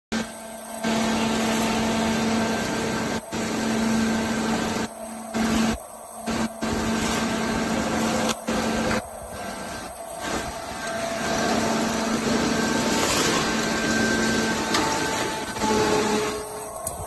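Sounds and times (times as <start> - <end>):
baler machine drone: 0.2 - 17.0.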